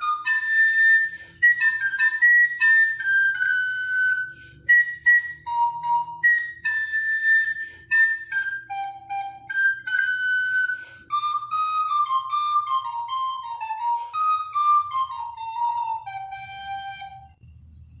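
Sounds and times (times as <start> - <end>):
recorder melody: 0.0 - 17.4.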